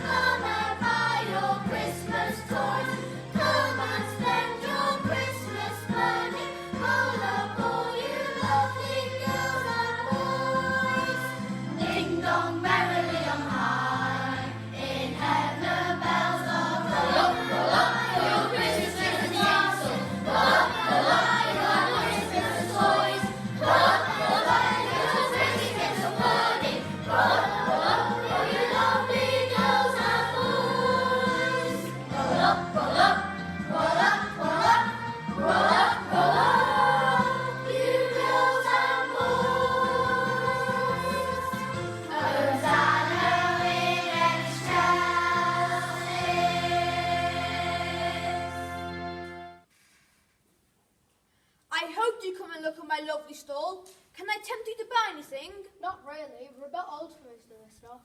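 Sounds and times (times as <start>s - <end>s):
children's choir singing: 0.0s - 49.2s.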